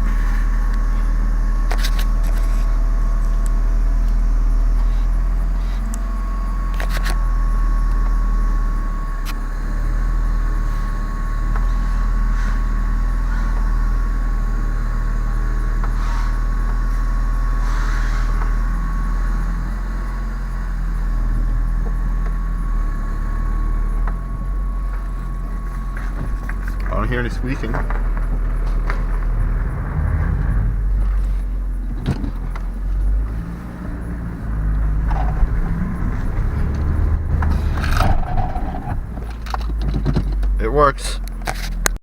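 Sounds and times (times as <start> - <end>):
car engine running: 0.0 - 42.0
road noise: 0.0 - 42.0.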